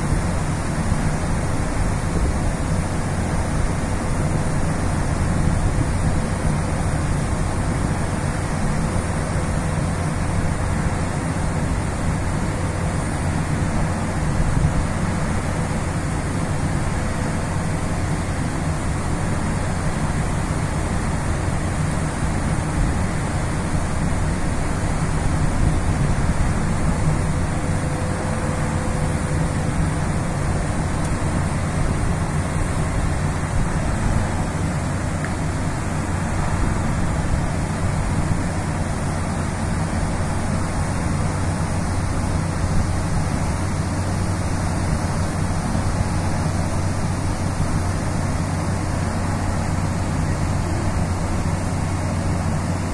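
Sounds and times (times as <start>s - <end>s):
ship machinery drone: 0.0s - 52.9s
wind noise: 0.0s - 52.9s.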